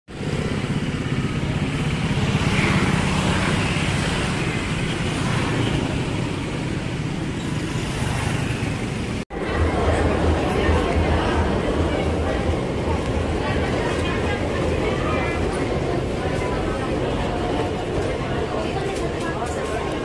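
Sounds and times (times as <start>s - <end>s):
motorcycles and scooters passing: 0.1s - 20.0s.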